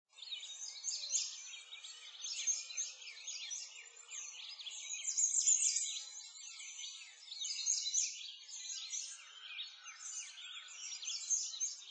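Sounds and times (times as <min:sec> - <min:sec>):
small birds chirping and twittering: 0:00.1 - 0:11.9.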